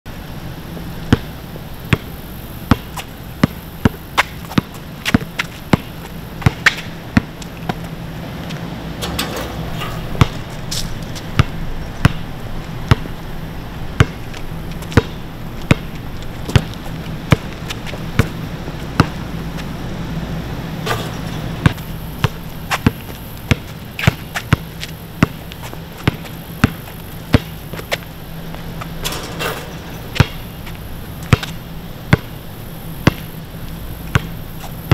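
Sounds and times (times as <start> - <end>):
steady low hum: 0.1 - 34.9
basketball bouncing on asphalt: 1.0 - 34.9.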